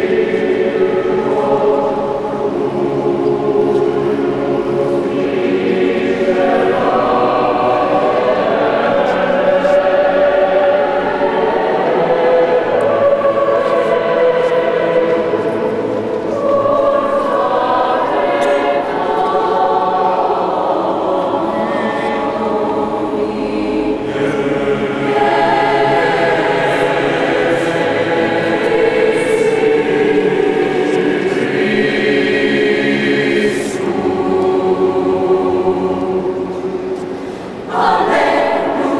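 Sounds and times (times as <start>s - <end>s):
choir singing in echoing hall: 0.0s - 38.9s.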